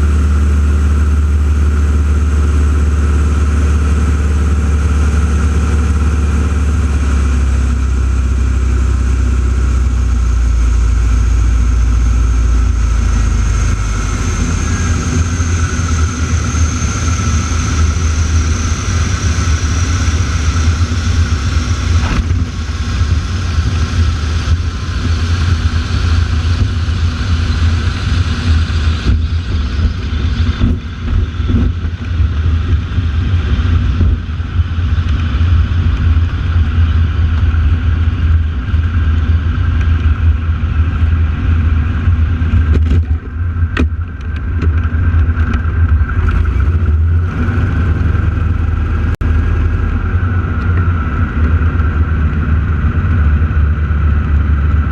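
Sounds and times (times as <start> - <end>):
aircraft engines droning overhead: 0.0 - 54.9.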